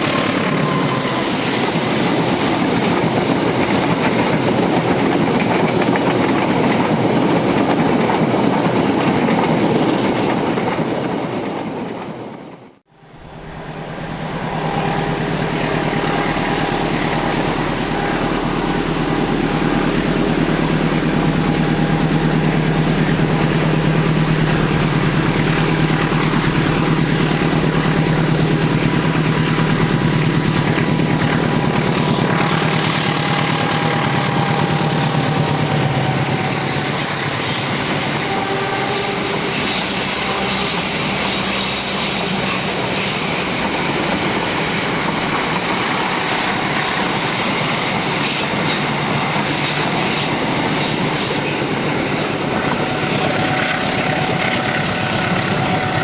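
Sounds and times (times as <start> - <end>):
diesel locomotive engine drone: 0.0 - 9.7, 12.7 - 56.0
train wheels clattering on rails: 0.0 - 12.8, 19.2 - 56.0.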